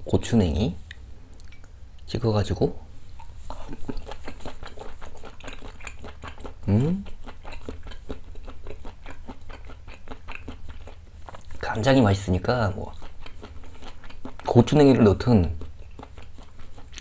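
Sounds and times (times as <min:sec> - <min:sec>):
wet chewing mouth clicks: 0:00.8 - 0:01.8, 0:03.1 - 0:17.0.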